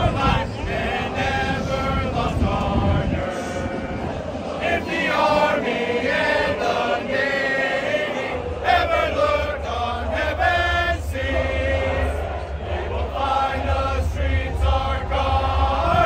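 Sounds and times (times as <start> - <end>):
group singing into microphones: 0.0 - 16.0.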